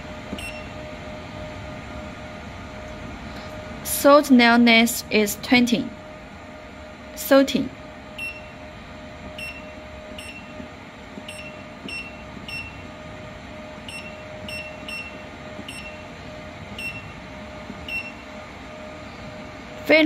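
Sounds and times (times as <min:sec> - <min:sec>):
faint machine hum: 0:00.0 - 0:20.0.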